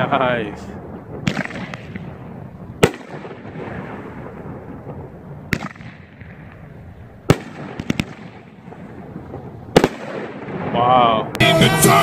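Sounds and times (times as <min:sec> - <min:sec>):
firework bangs: 0:00.0 - 0:11.4.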